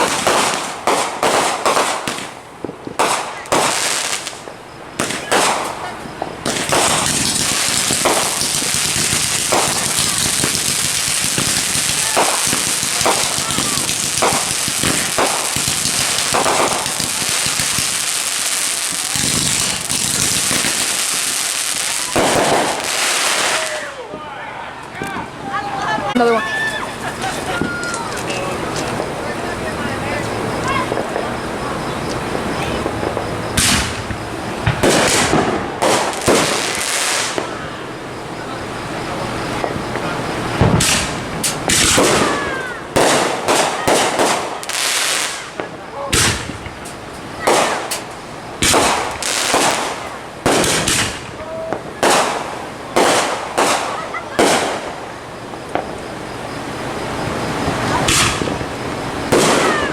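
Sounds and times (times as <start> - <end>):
fireworks bursts: 0.0 - 59.9
fireworks crackling: 0.0 - 59.9.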